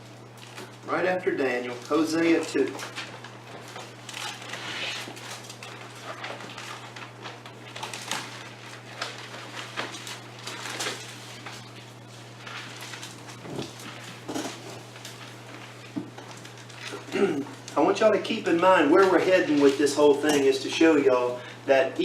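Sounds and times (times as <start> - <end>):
low electrical hum: 0.0 - 22.0
paper pages rustling: 1.4 - 20.7.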